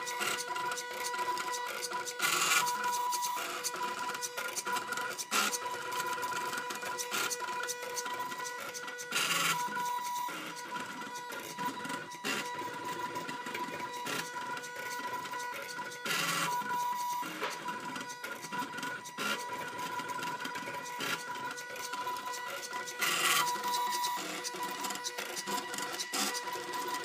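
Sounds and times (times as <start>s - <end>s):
stepper motors whining: 0.0s - 27.0s.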